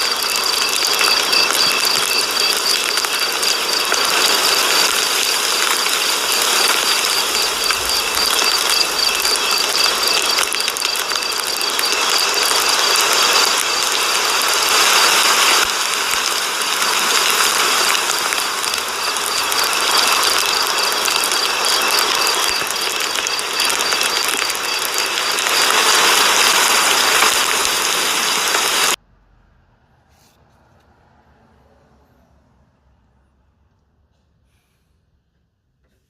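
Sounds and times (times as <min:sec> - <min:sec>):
mechanical whirring with high whine: 0:00.0 - 0:29.0.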